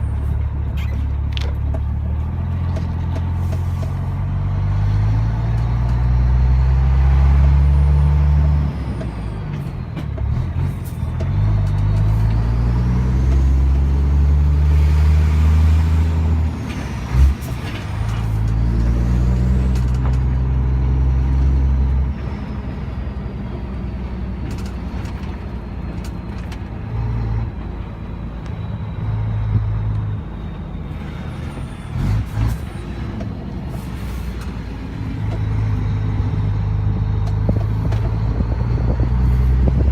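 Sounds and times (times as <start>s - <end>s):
diesel truck engine under load: 0.0s - 39.9s.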